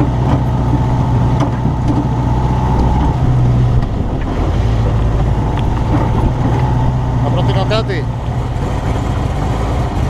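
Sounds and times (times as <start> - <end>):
jeep engine running: 0.0 - 10.0.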